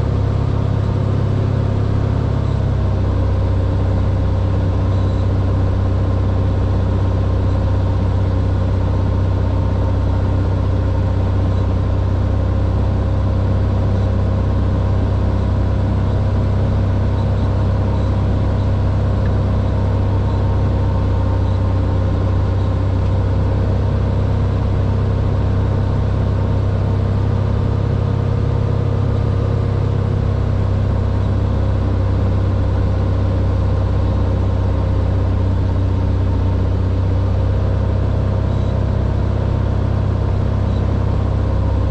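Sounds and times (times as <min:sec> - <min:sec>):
propeller plane engine droning: 0:00.0 - 0:41.9.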